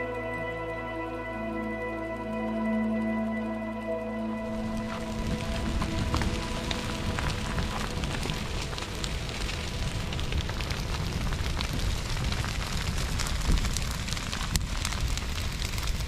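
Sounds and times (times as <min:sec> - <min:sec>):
grass fire crackling and popping: 0:00.0 - 0:16.0
low fire rumble: 0:00.0 - 0:16.0.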